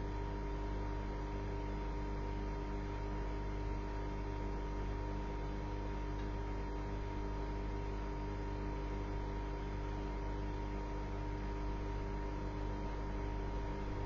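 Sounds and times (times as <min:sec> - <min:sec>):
electrical hum with tones: 0:00.0 - 0:14.0.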